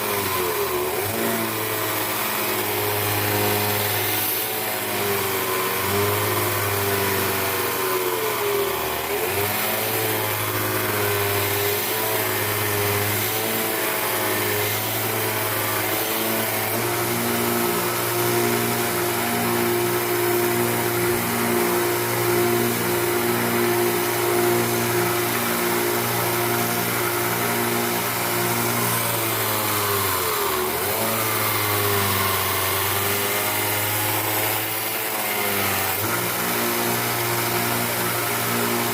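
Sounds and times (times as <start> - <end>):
electric grinder grinding steel: 0.0 - 38.9.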